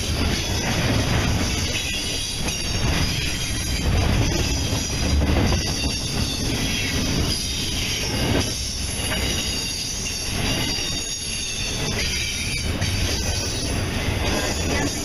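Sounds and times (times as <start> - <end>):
rail clicks: 0.0 - 15.0
train wheels rumbling on rails: 0.0 - 15.0
high-pitched wheel squeal: 1.5 - 15.0.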